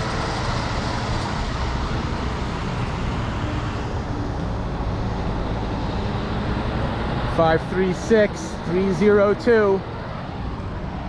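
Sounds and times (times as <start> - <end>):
road hiss: 0.0 - 11.0
traffic rumble: 0.0 - 11.0.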